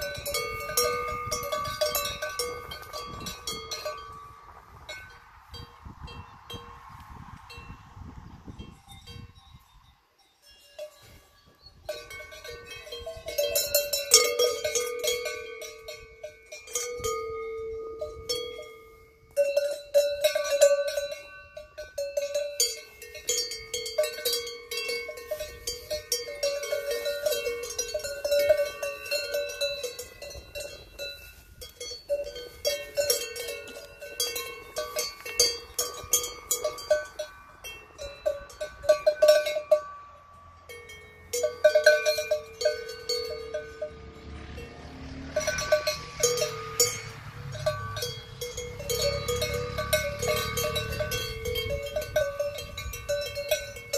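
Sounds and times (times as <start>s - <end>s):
cowbells clanging: 0.0s - 6.8s, 8.6s - 53.9s.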